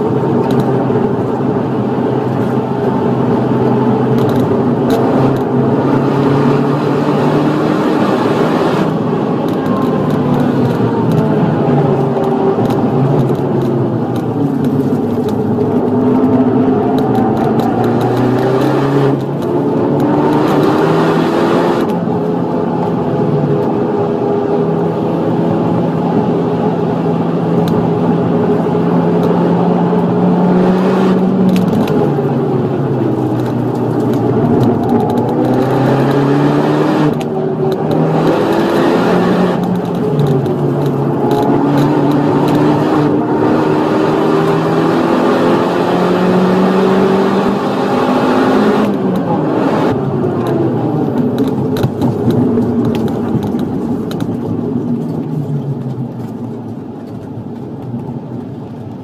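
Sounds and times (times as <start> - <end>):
car engine accelerating hard: 0.0 - 59.0.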